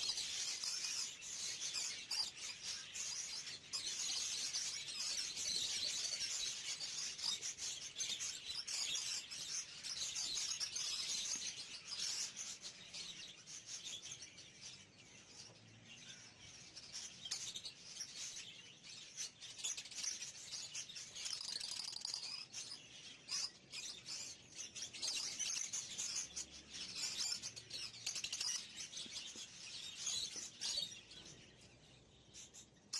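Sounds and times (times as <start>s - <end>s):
budgerigars chattering: 0.0s - 32.9s.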